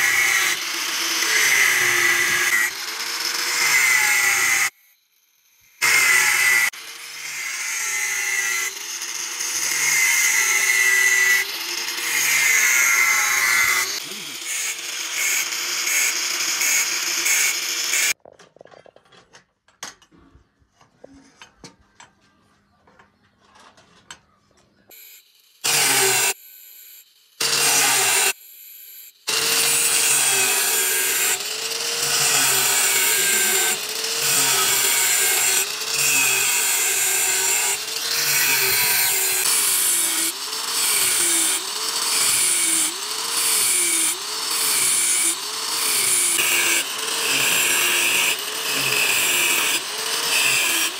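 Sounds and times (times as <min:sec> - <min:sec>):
angle grinder grinding steel: 0:00.0 - 0:18.2, 0:24.9 - 0:50.9.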